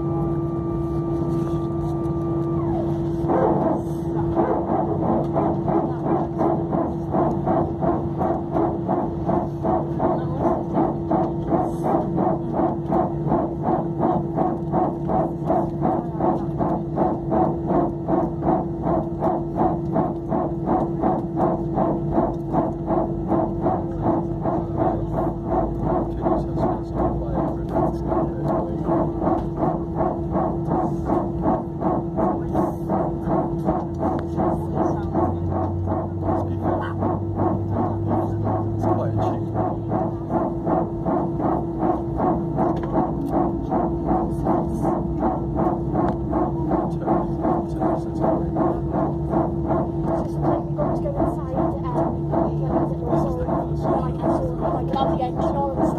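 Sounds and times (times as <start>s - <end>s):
pulsing musical drone: 0.0s - 55.9s.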